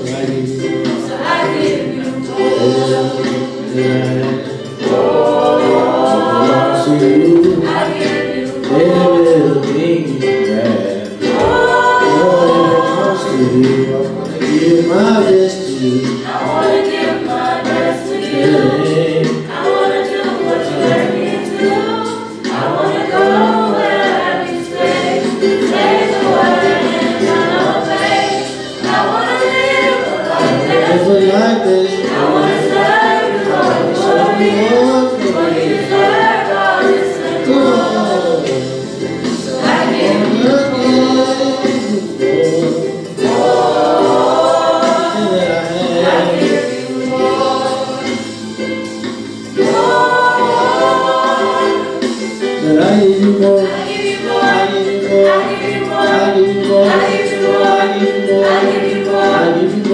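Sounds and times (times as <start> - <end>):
choir singing gospel song: 0.0 - 59.9.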